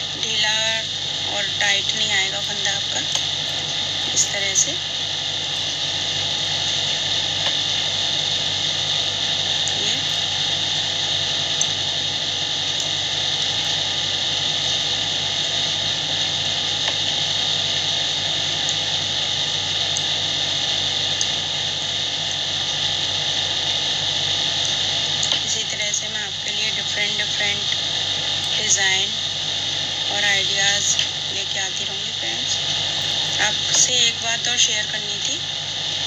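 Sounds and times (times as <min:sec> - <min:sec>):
low hum: 0:00.0 - 0:36.0
steady hiss: 0:00.0 - 0:36.0.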